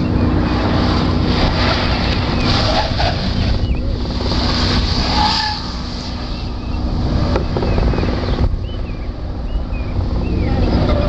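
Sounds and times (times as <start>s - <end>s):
tyre and road noise: 0.0s - 11.0s
wind rumble on microphone: 0.0s - 11.0s.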